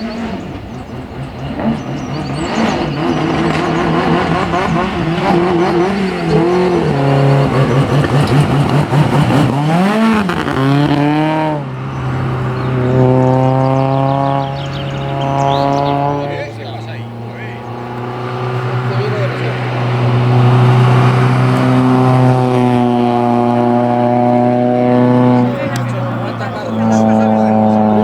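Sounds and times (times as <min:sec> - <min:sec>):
car engine racing: 0:00.0 - 0:28.0.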